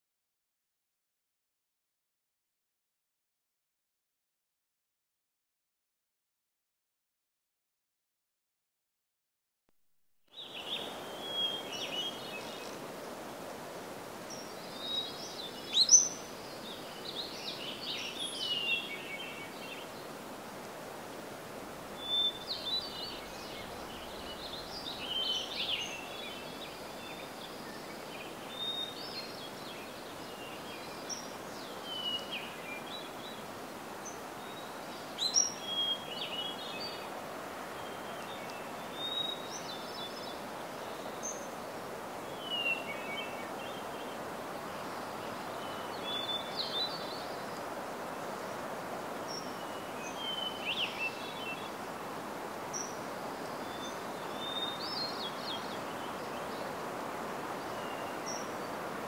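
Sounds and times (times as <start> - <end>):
songbirds chirping and twittering: 10.3 - 59.0
steady background hiss: 10.3 - 59.0.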